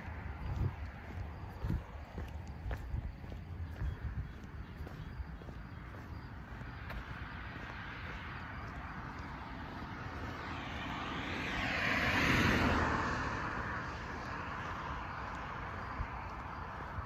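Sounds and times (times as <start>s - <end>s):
car passing: 0.0s - 17.0s.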